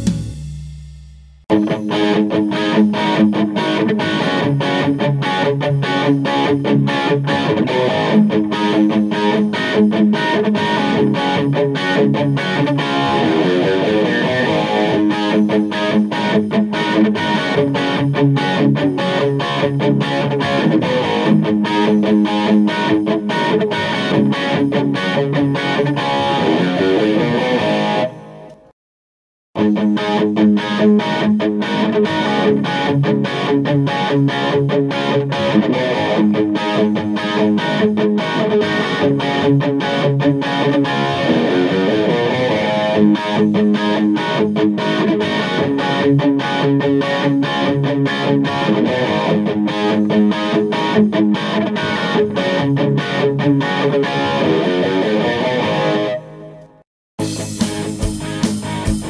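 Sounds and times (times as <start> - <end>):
electric guitar notes and chords: 0.0 - 28.7, 29.6 - 59.0.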